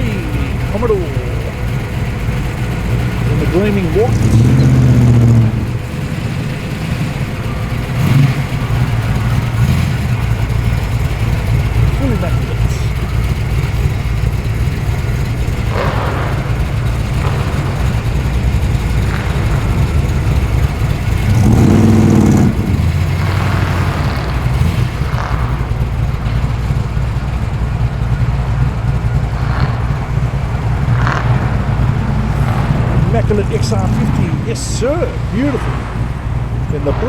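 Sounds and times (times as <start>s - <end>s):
car engine passing close: 0.0s - 37.0s
cars passing: 0.0s - 37.0s.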